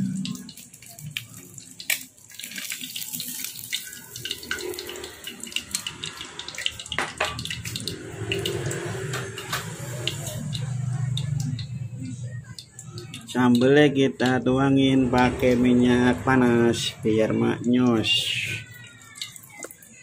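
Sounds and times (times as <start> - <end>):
frying oil sizzling and crackling: 0.0 - 20.0.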